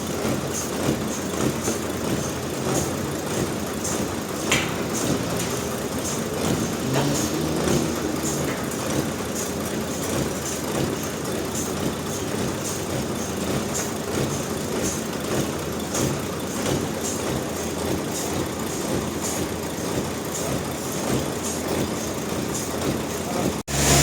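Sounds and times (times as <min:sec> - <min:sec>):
sawmill machinery droning: 0:00.0 - 0:24.0.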